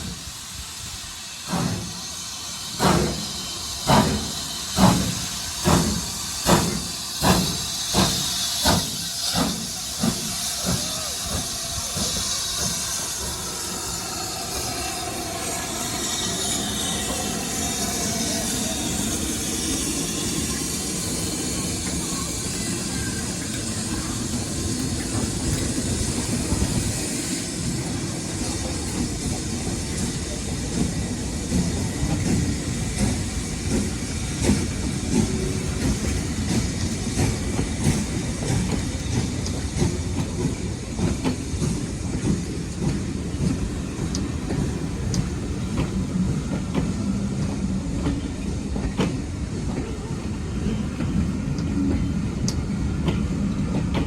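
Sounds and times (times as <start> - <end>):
steam hiss: 0.0 - 54.0
steam train rumbling: 0.0 - 54.0.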